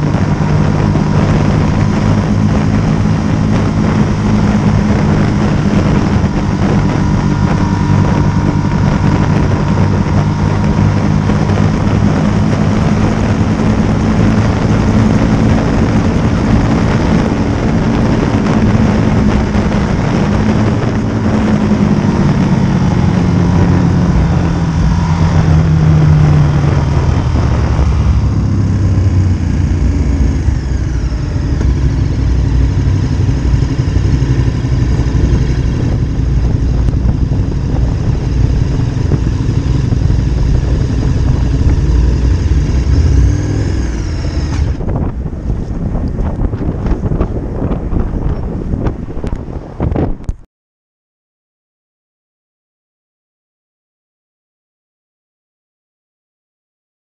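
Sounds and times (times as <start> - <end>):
motorcycle engine: 0.0 - 50.4
wind noise: 0.0 - 50.5.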